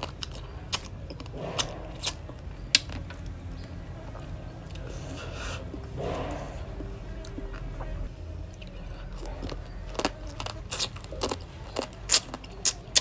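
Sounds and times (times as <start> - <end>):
chewing crab shell crunching: 0.0 - 13.0.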